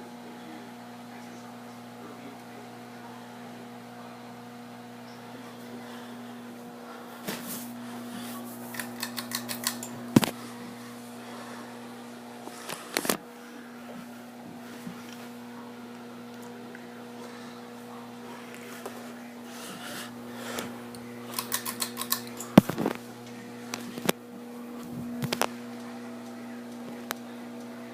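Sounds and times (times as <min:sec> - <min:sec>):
ceiling fan motor hum: 0:00.0 - 0:27.9.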